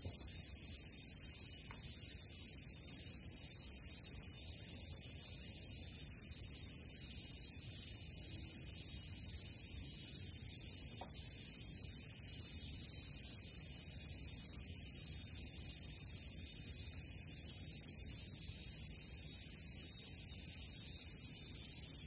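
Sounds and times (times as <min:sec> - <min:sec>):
steady high-pitched hiss: 0:00.0 - 0:22.0.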